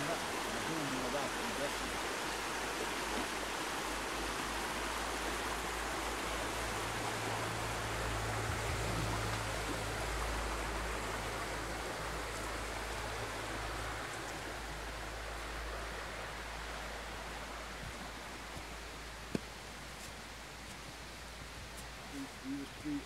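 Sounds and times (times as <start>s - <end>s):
stream water running: 0.0s - 23.0s.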